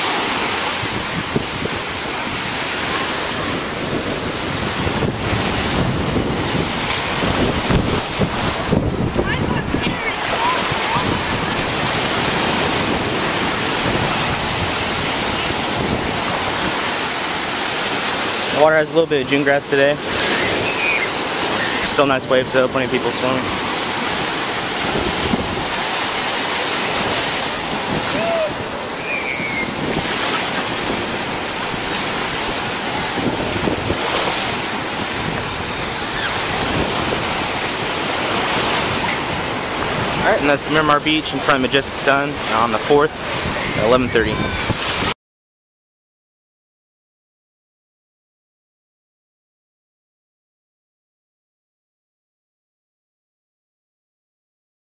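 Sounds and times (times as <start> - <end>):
ocean surf breaking: 0.0 - 45.2.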